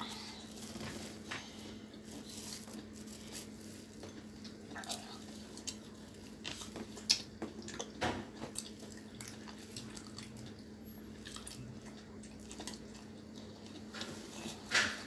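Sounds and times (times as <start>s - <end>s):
low steady hum: 0.0s - 15.0s
people chewing vegetables: 0.0s - 15.0s.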